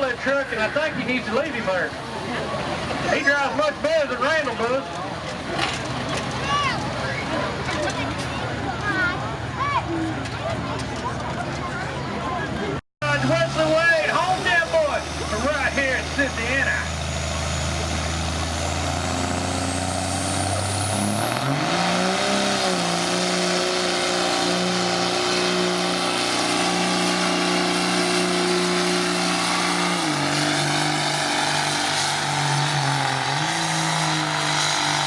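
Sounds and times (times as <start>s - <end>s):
diesel engine at full throttle: 0.0s - 35.0s.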